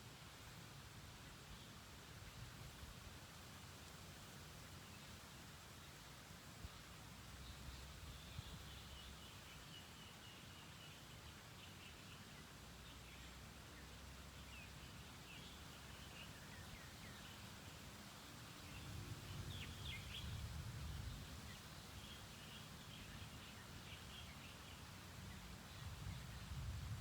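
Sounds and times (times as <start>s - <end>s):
outdoor hiss: 0.0s - 27.0s.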